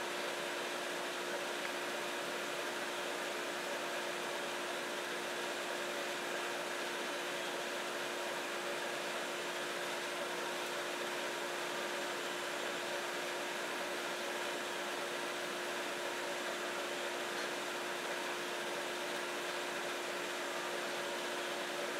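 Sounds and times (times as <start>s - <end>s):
laser cutter hum: 0.0s - 21.9s.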